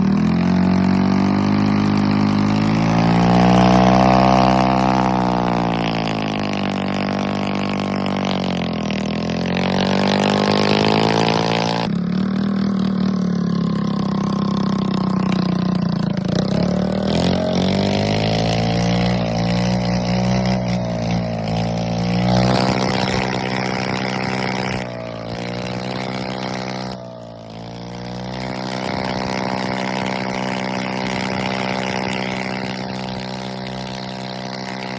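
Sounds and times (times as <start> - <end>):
scooter engine revving: 0.0 - 34.9.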